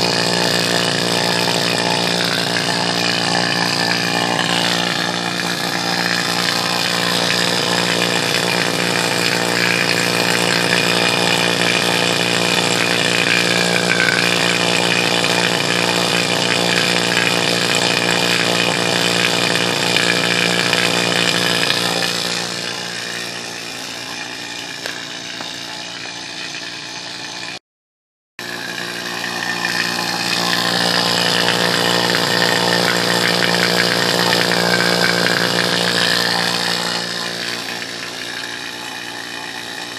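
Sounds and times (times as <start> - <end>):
vacuum pump motor hum: 0.0 - 27.6, 28.4 - 39.9.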